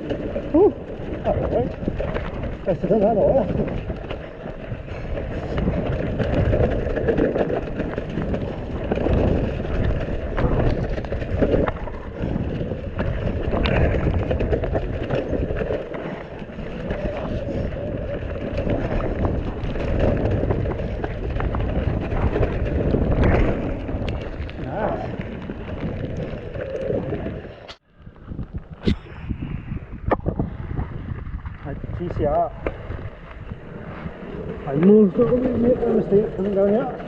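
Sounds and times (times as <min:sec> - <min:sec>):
bike clicking and rattling: 0:00.0 - 0:37.0
bike tyres running through mud: 0:00.0 - 0:37.0
wind buffeting microphone: 0:00.0 - 0:37.0.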